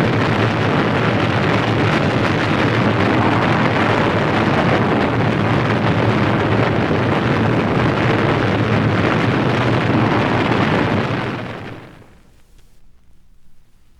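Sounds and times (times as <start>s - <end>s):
large fire burning: 0.0s - 12.7s.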